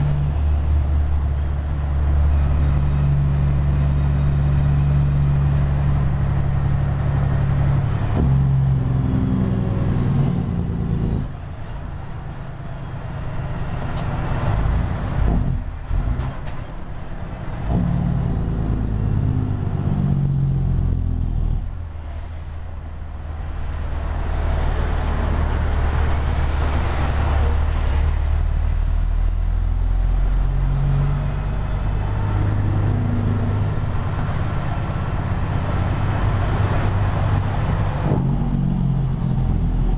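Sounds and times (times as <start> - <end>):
diesel truck engine pulling: 0.0 - 39.9.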